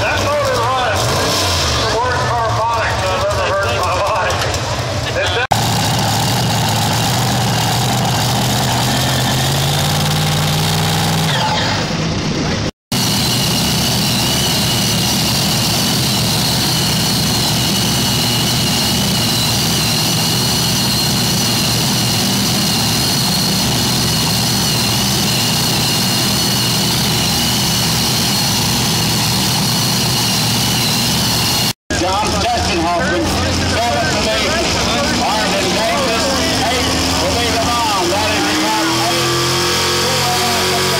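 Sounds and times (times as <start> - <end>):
high engine whine: 0.0 - 40.9
loud vehicle engine running: 0.0 - 40.9.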